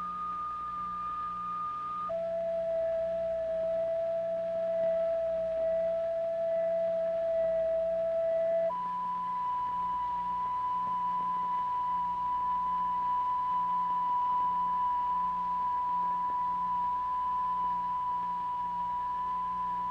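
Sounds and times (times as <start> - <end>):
high pure sine tone: 0.0 - 19.9.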